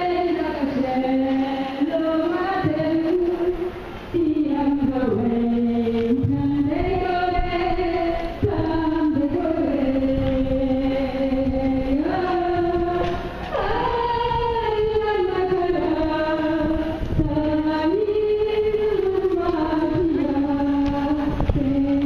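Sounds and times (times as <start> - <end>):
woman singing slow chant: 0.0 - 22.0.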